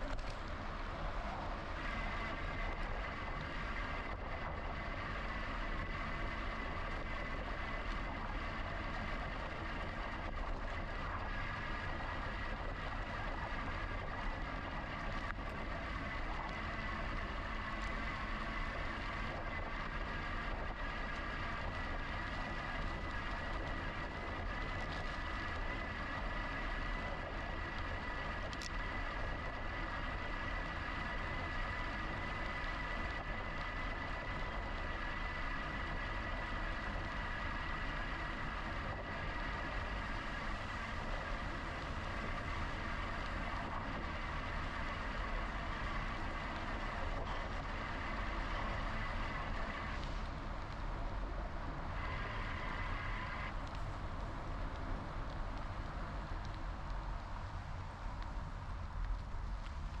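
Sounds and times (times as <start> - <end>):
steady high whine: 0.0 - 60.0.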